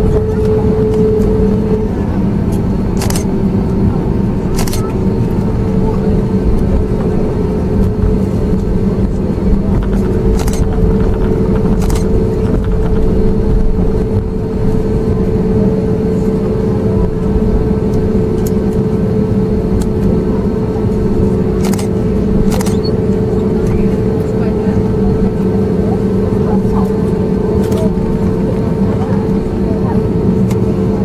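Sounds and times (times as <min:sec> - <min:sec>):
aircraft engines idling: 0:00.0 - 0:31.0
steady cabin hum: 0:00.0 - 0:31.0
wheels rolling on taxiway: 0:03.3 - 0:31.0.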